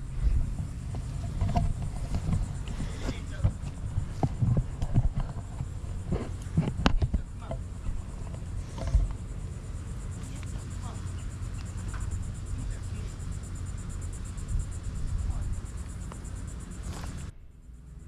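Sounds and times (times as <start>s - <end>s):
fast insect trill: 0.0s - 18.0s
wind rumble on microphone: 0.0s - 18.0s.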